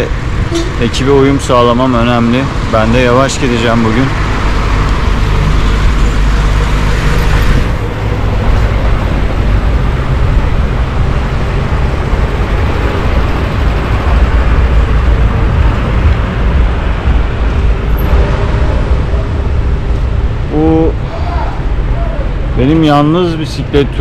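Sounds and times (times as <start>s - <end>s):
heavy low rumble: 0.0s - 24.0s
street traffic: 0.0s - 24.0s.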